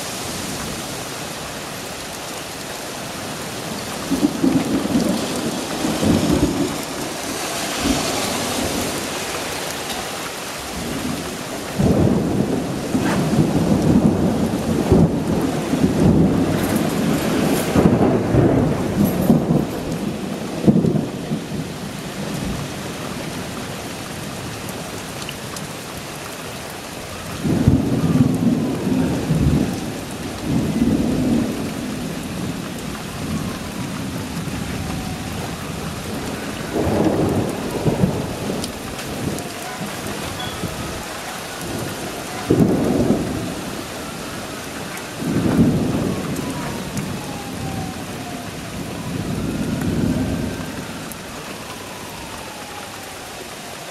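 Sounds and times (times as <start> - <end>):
steady rain: 0.0 - 53.9
thunder rumbling: 2.7 - 25.1, 27.2 - 53.9.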